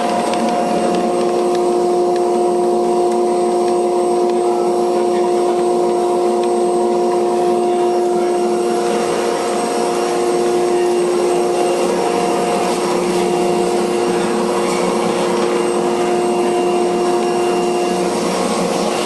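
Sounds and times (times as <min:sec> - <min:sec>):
panel saw running: 0:00.0 - 0:19.0.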